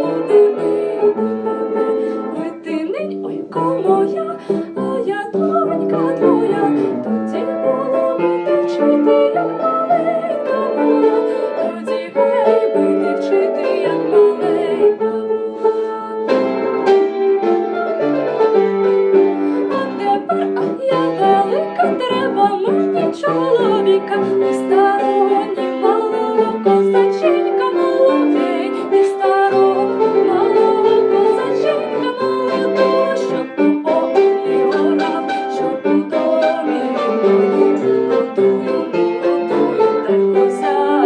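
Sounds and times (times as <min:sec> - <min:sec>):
piano instrumental music: 0:00.0 - 0:41.0.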